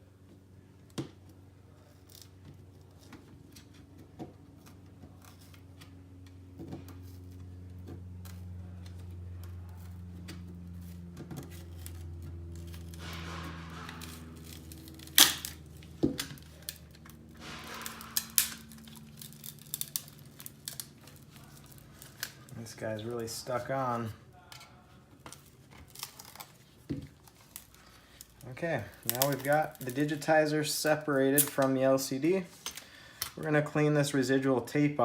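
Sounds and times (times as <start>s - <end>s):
low steady hum: 0.0s - 35.0s
plastic snapping and tearing: 0.9s - 23.1s, 24.4s - 30.3s.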